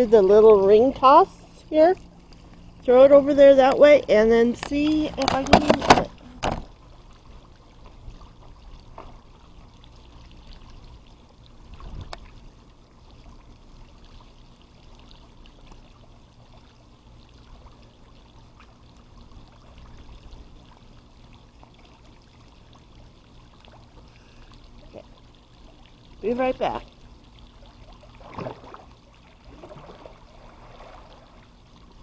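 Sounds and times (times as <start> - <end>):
pool water trickling and lapping: 0.0 - 32.0.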